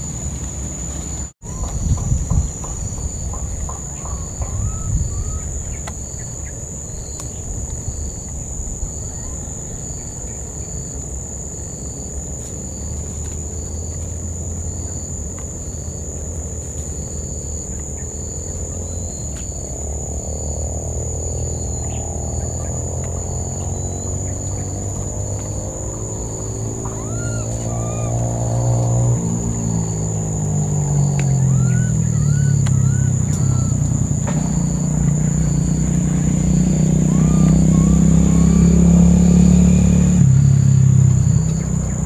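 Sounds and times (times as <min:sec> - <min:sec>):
insect chirping pulses: 0:00.0 - 0:42.0
insect high-pitched drone: 0:00.0 - 0:42.0.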